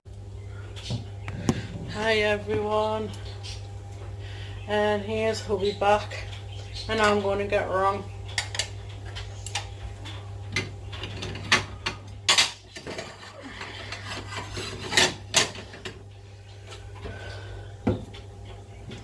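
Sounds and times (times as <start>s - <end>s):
steady low hum: 0.1s - 19.0s.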